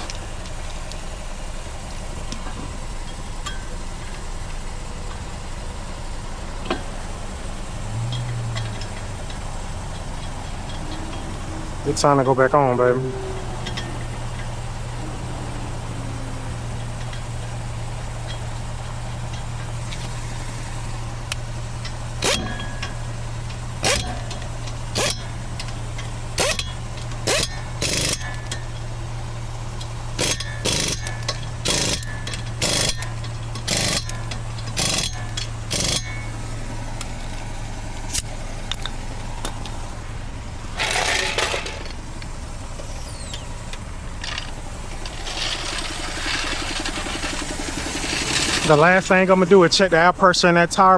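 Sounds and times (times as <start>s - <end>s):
low engine hum: 0.0s - 50.9s
air impact wrench bursts: 7.2s - 38.4s, 40.7s - 50.5s.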